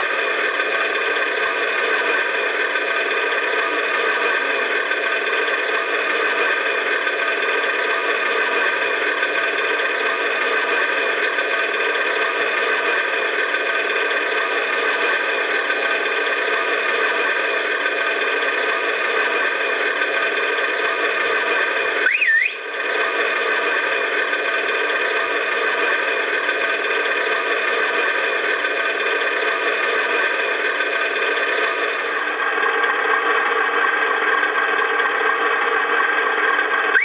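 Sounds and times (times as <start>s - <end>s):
model truck droning hum: 0.0s - 37.0s.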